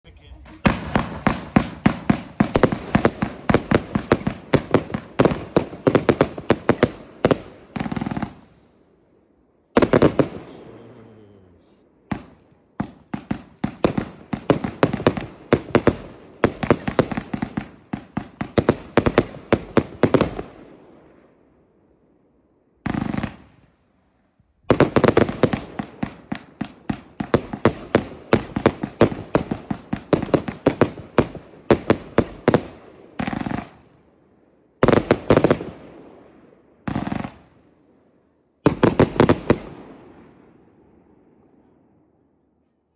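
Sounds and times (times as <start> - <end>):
firework shots and shell bursts: 0.3 - 8.8, 9.8 - 11.4, 12.0 - 21.2, 22.8 - 23.8, 24.7 - 34.1, 34.8 - 37.7, 38.6 - 40.8
firework single blasts: 0.3 - 21.4, 22.8 - 34.1, 34.8 - 42.0.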